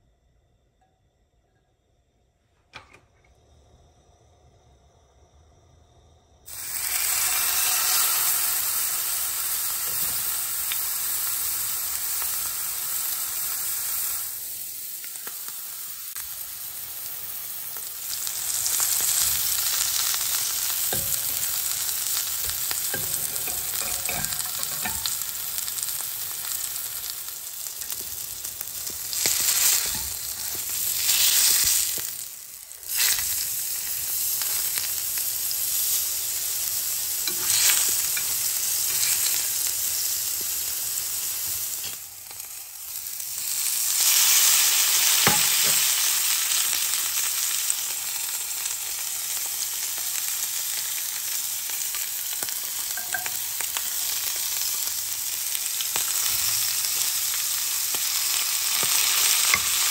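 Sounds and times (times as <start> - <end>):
steak sizzling in a frying pan: 6.5 - 59.9.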